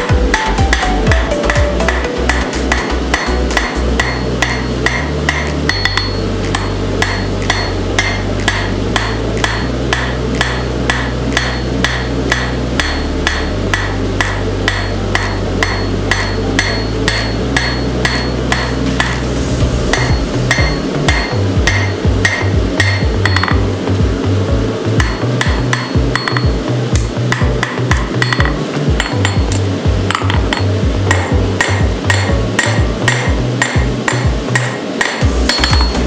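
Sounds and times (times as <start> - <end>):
hammer striking metal on anvil: 0.0 - 23.7, 25.0 - 36.0.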